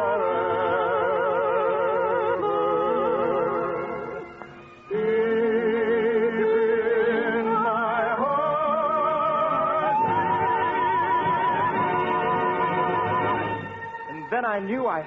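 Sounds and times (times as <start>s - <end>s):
orchestral music with held notes: 0.0s - 15.0s.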